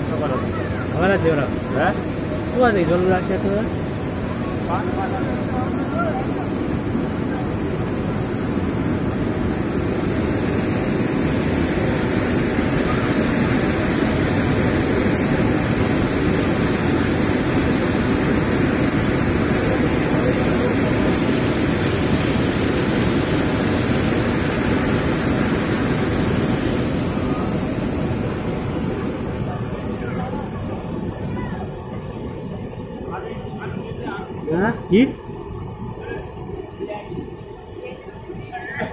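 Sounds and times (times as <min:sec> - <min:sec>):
waterfall rushing over boulders: 0:00.0 - 0:34.4.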